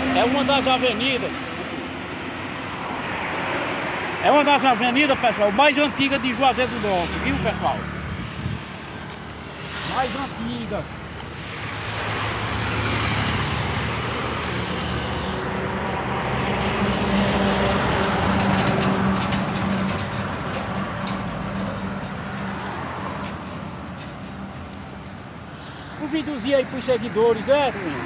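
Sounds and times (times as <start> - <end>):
road traffic passing: 0.0 - 28.0
vehicle engine drone: 4.9 - 28.0.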